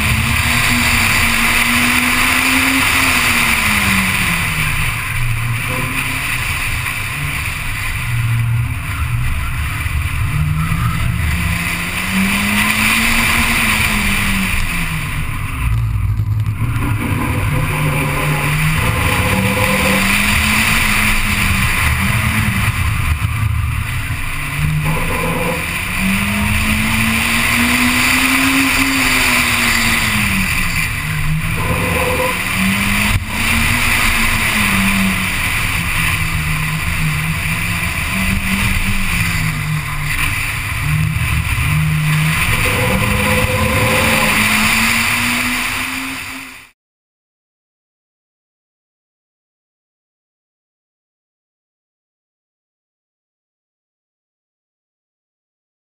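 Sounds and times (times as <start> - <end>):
race car engine revving: 0.0 - 46.8
wind and road noise: 0.0 - 46.8.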